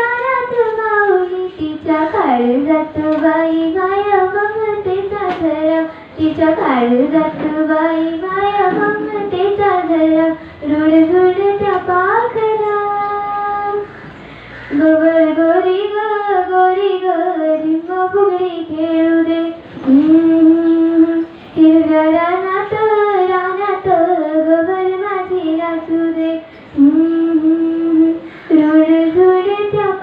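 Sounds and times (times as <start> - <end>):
girl singing unaccompanied: 0.0 - 13.9, 14.6 - 30.0.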